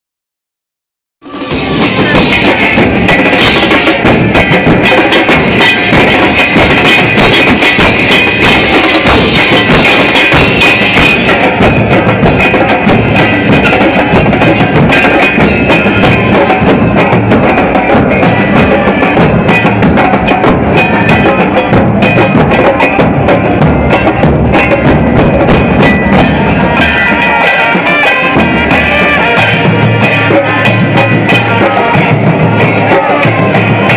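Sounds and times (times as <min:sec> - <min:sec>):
drums beating fast: 0:01.2 - 0:33.9.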